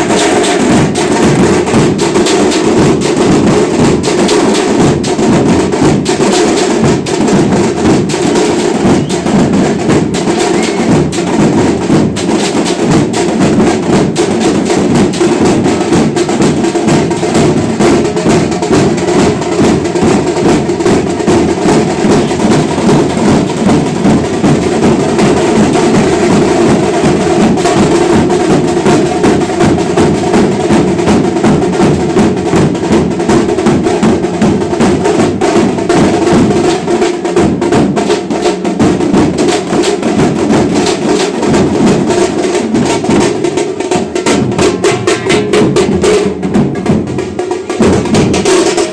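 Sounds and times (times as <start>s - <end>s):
fast hand drumming: 0.0s - 48.9s.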